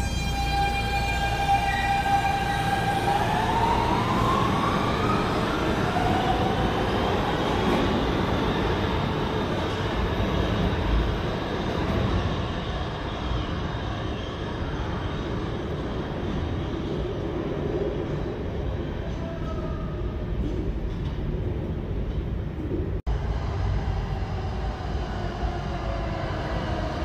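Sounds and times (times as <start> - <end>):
train wheels rumbling on rail: 1.0 - 27.0.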